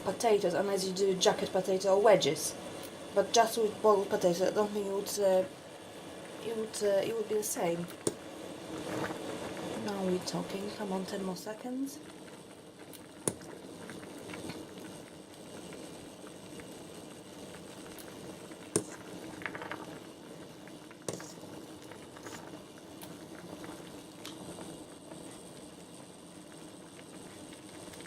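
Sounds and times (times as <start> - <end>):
pot of noodles boiling: 0.0 - 28.0.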